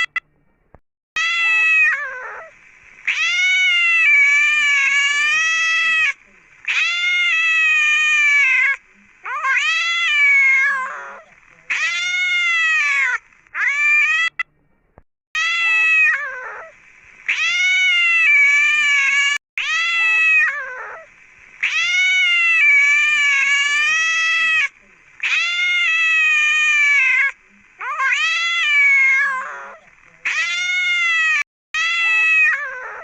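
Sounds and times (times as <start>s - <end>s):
cat meowing: 1.2s - 2.5s, 3.1s - 14.4s, 15.4s - 16.7s, 17.3s - 33.0s.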